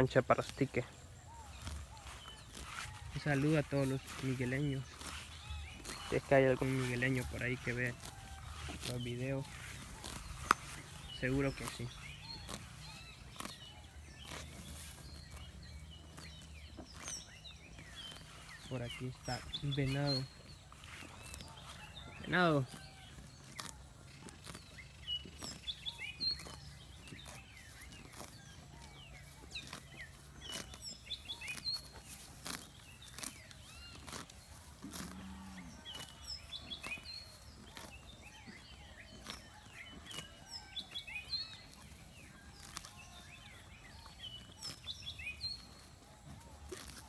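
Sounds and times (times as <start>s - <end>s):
birds chirping: 0.0s - 47.0s
ox tearing grass: 0.1s - 47.0s.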